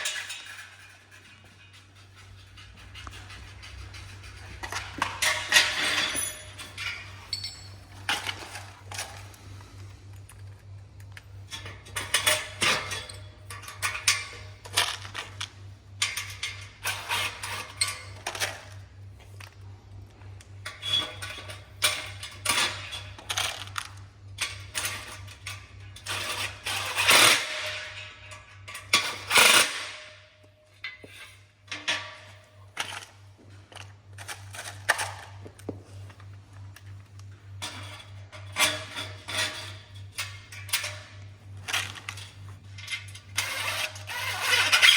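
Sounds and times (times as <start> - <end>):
frame parts clicking and clattering: 0.0 - 18.8, 20.7 - 44.9
steady low hum: 0.0 - 44.8.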